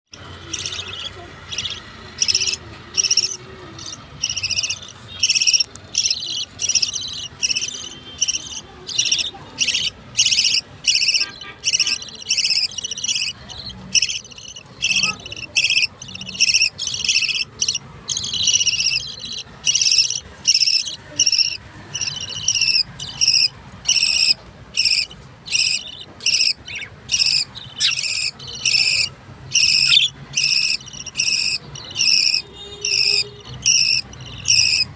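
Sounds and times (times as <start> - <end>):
budgerigar chicks begging calls: 0.1 - 34.9.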